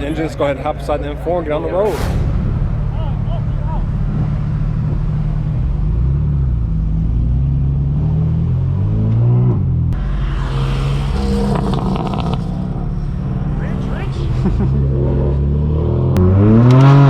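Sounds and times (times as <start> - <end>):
car exhaust rumbling: 0.0 - 17.0
engine revving: 2.3 - 17.0
raspy exhaust note: 2.3 - 17.0
exhaust crackles: 2.6 - 17.0.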